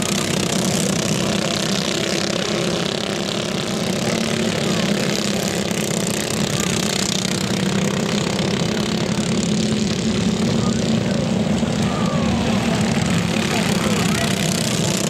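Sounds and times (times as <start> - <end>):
kart engines droning: 0.0 - 15.0.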